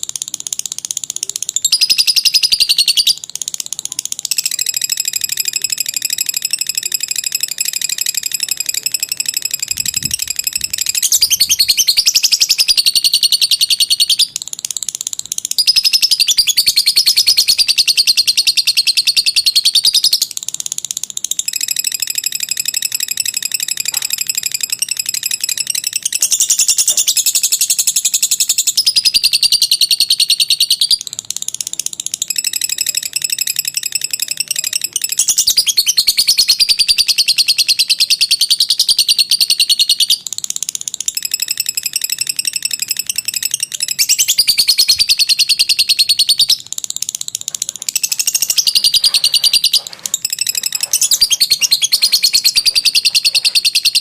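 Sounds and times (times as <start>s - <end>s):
lovebird high-pitched trills: 0.1s - 54.0s.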